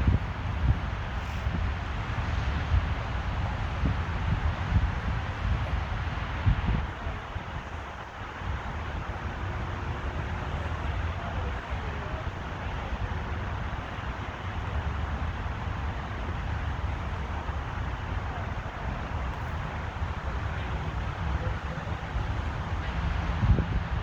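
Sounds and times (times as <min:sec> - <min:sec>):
low rumble of traffic: 0:00.0 - 0:24.0
wind on microphone: 0:00.0 - 0:24.0.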